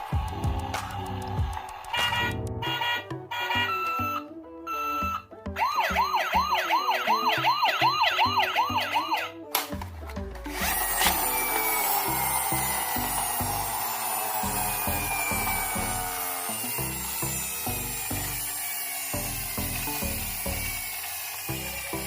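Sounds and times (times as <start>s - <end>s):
toy electronic siren yelping: 2.0s - 9.4s, 10.5s - 22.0s.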